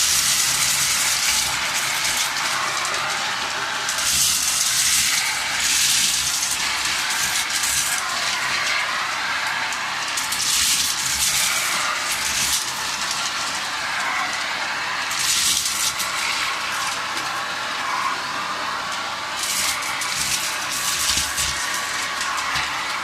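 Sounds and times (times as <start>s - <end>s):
vacuum cleaner running: 0.0s - 23.0s.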